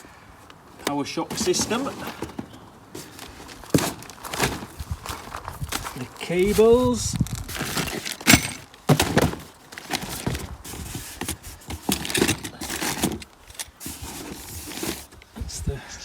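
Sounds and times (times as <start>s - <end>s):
knocks and thuds in cardboard box: 1.3s - 15.2s
packaging crinkling and rustling: 1.3s - 15.3s.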